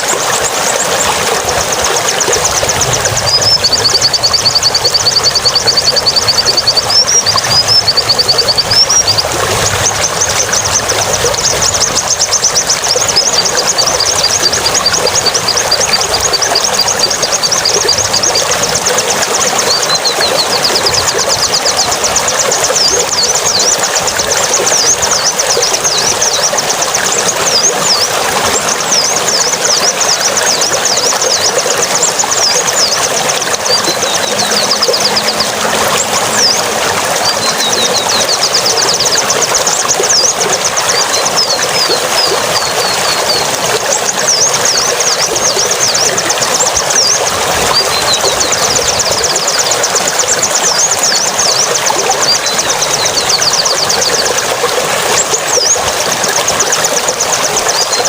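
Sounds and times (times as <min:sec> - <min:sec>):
songbird chirping and trilling: 0:00.0 - 0:58.0.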